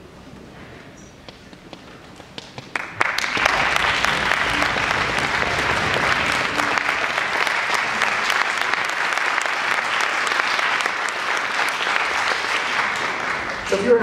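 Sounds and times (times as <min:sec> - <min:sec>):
audience applauding: 0:02.0 - 0:14.0.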